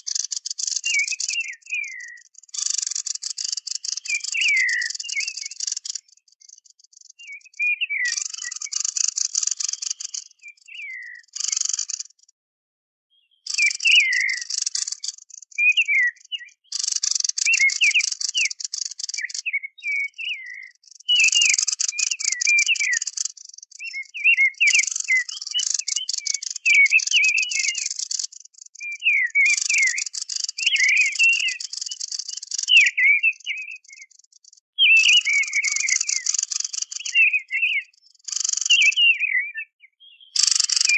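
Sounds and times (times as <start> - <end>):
bird chirping and warbling: 0.0 - 12.3, 13.1 - 40.9.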